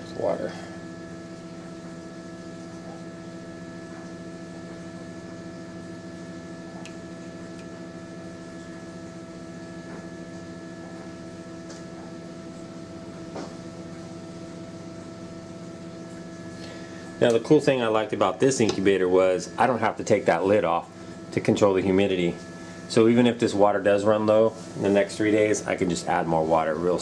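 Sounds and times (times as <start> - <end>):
incubator motor hum: 0.0 - 27.0.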